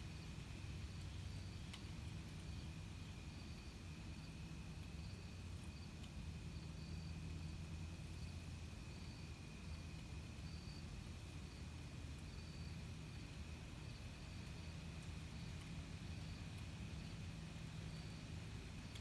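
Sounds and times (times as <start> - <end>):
low steady hum: 0.0 - 19.0
cricket trill: 0.1 - 19.0.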